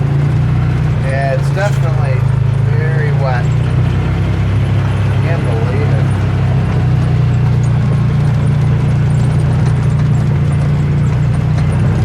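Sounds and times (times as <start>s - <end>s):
engine droning from inside cab: 0.0s - 12.0s.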